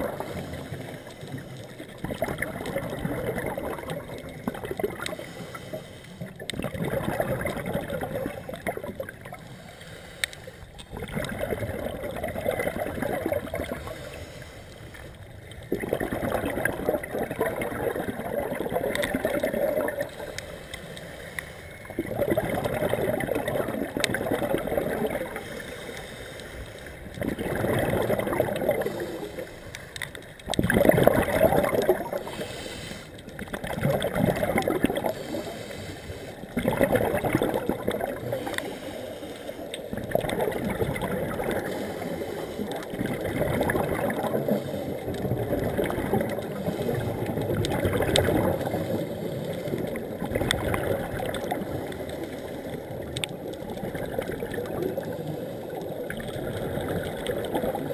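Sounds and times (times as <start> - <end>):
bubbles gurgling from regulator: 0.0 - 5.6, 6.2 - 9.6, 10.7 - 14.2, 15.2 - 20.4, 21.8 - 25.7, 27.0 - 57.9.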